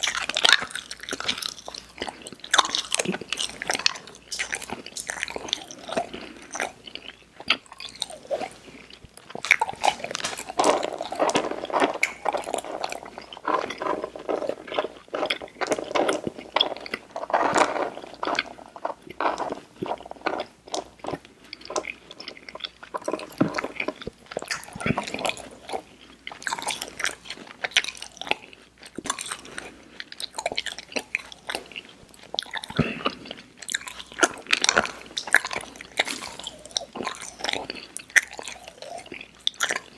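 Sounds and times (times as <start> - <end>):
chewing sticky candy: 0.0 - 39.9.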